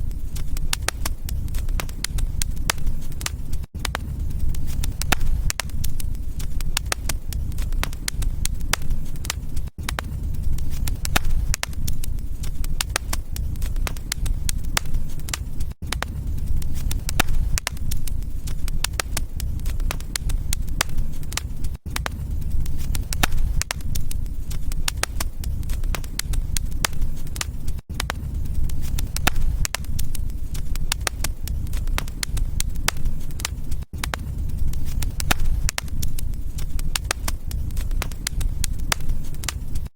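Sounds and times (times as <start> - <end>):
low steady rumble: 0.0 - 39.8
wood fire crackling and popping: 0.0 - 39.9.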